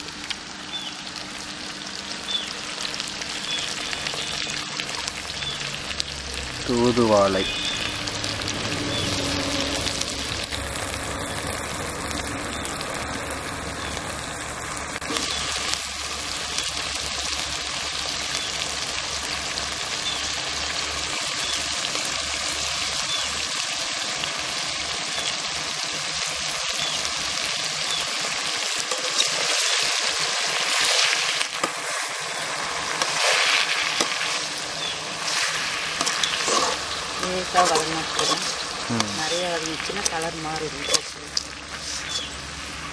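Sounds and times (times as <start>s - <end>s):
leaves sizzling in a hot pan: 0.0s - 42.9s.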